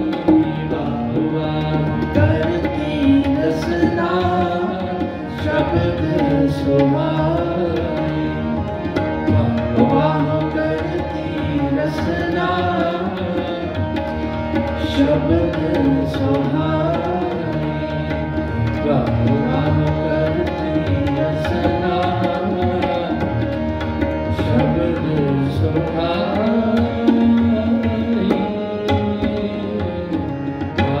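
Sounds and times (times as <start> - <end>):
harmonium chords: 0.0 - 31.0
tabla rhythm: 0.0 - 31.0.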